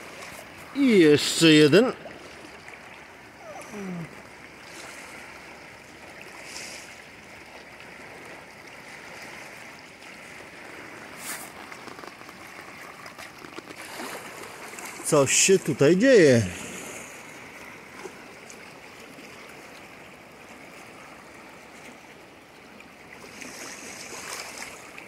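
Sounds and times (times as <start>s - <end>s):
water rushing at shoreline: 0.0s - 25.0s.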